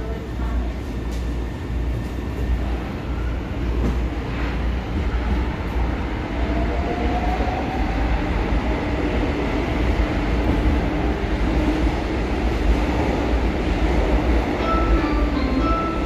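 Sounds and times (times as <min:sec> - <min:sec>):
train rumbling in tunnel: 0:00.0 - 0:16.0.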